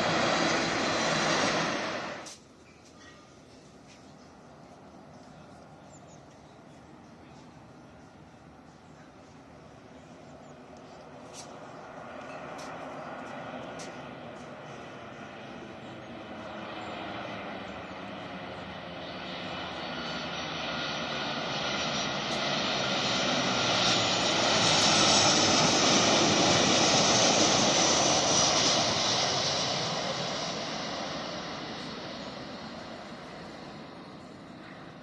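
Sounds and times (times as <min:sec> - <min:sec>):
airliner engines passing: 0:00.0 - 0:35.0.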